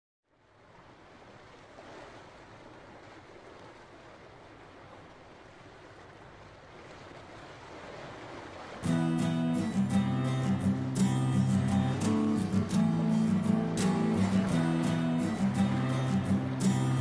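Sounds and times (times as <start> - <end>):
water rushing past boat: 0.4 - 17.0.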